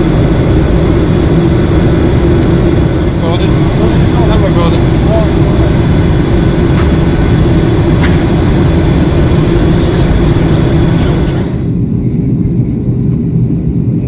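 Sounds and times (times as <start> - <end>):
airplane cabin engine noise: 0.0 - 14.0
low rumble: 0.0 - 14.0.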